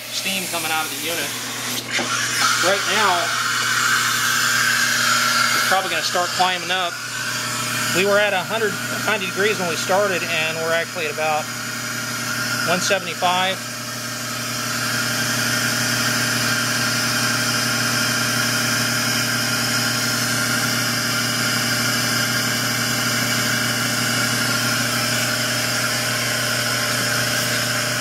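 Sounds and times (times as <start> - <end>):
electric pump humming: 0.0 - 28.0.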